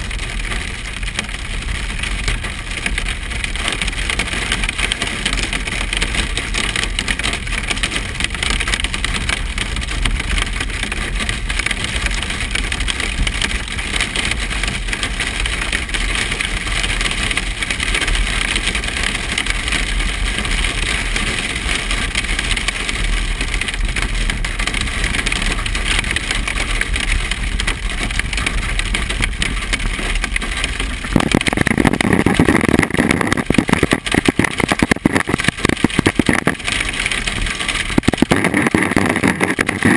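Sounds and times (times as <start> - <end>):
rain and hail on a vehicle: 0.0 - 39.9
road noise: 0.0 - 39.9
vehicle engine: 0.0 - 39.9.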